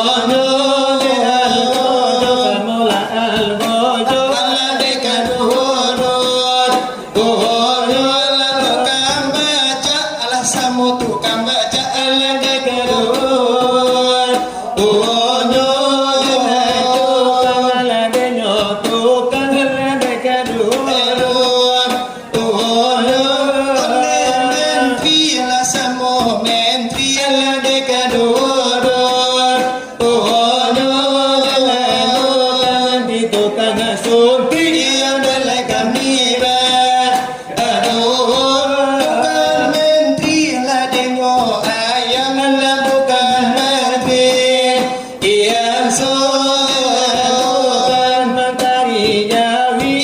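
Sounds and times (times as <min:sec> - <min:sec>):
men singing devotional chant: 0:00.0 - 0:50.0.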